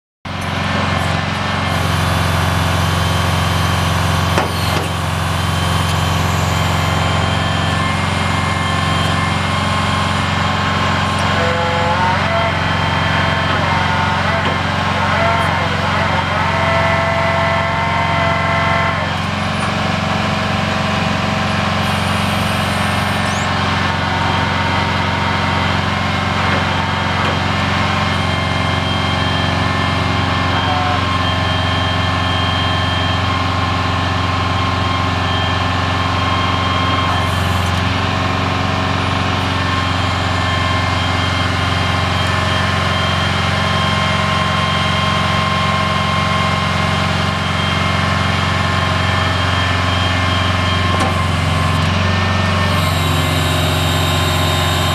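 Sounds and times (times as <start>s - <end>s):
diesel engine running: 0.3s - 54.9s
high steady whining tones: 0.3s - 54.9s.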